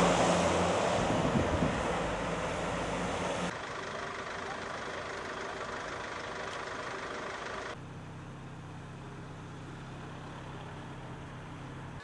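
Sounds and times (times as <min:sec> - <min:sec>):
engine idling low hum: 0:01.0 - 0:12.0.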